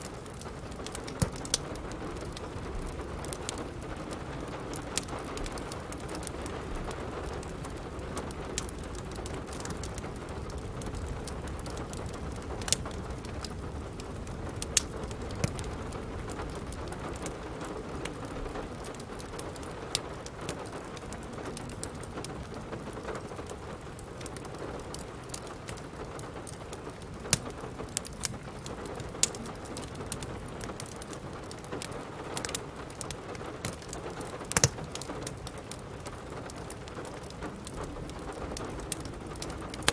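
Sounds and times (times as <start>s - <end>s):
steady rain falling: 0.0s - 39.9s
wood fire crackling: 0.0s - 39.9s.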